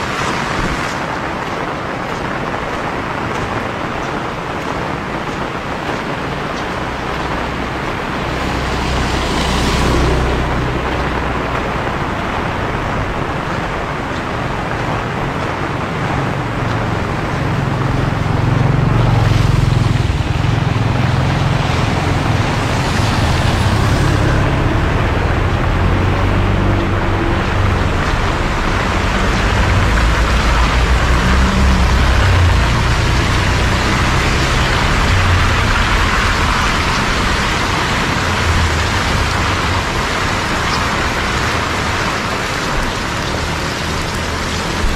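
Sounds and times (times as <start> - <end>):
heavy rain: 0.0 - 44.9
tyres hissing on wet road: 0.0 - 44.9
vehicle engine rumbling: 0.0 - 44.9.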